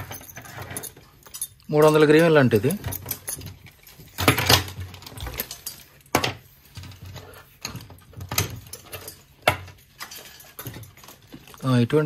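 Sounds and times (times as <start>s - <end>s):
metal buckles clinking on wood: 0.0s - 12.0s.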